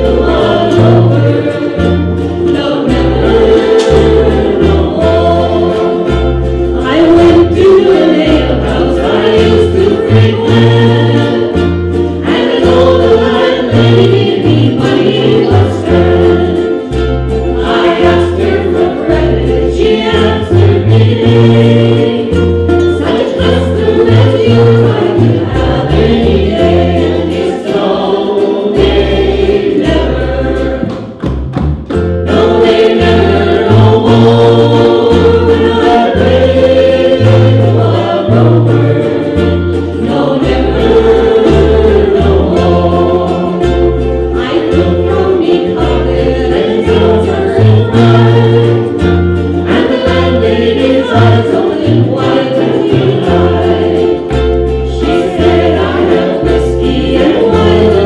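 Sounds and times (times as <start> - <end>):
bass line: 0.0 - 58.0
group singing in harmony: 0.0 - 58.0
strummed ukuleles: 0.0 - 58.0.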